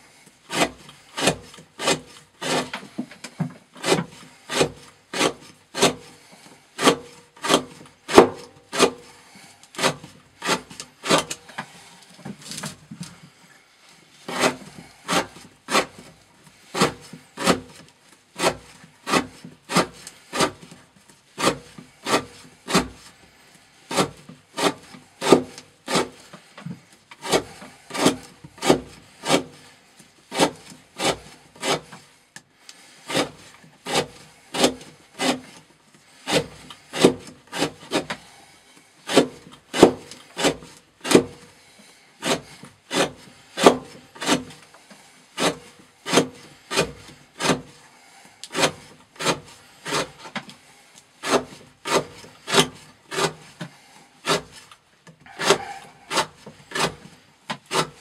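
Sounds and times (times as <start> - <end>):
knife shaving wood: 0.0 - 58.0.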